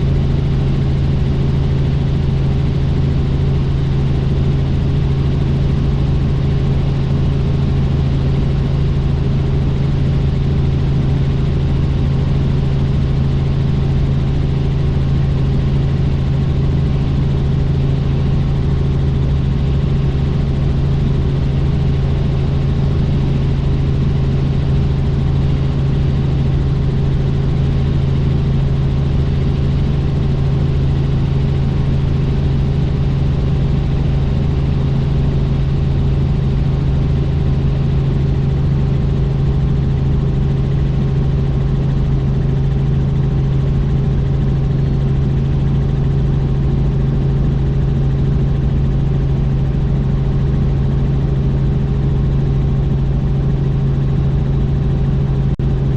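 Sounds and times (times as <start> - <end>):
helicopter engine and rotors: 0.0 - 55.9.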